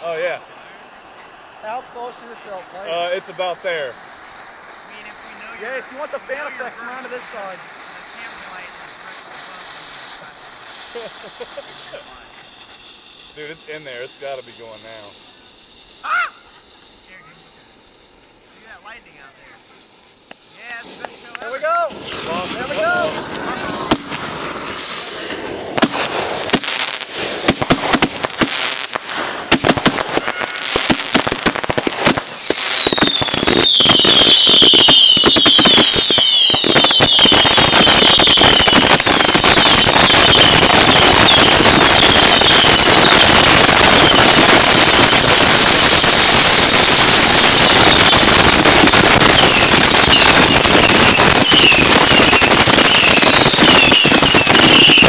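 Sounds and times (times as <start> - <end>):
fireworks bangs and crackle: 0.0 - 55.0
fireworks whistles falling in pitch: 0.0 - 55.0.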